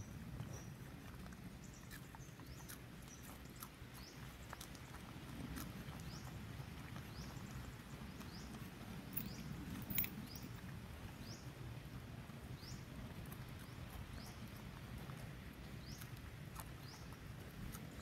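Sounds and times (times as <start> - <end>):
pig snuffling and chewing grass: 0.0 - 18.0.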